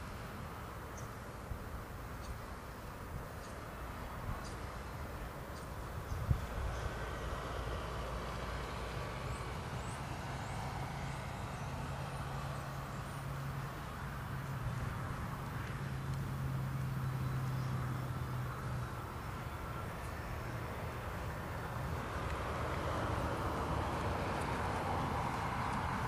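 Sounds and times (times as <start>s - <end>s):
engine humming: 0.0s - 26.0s
outdoor background noise: 0.0s - 26.0s.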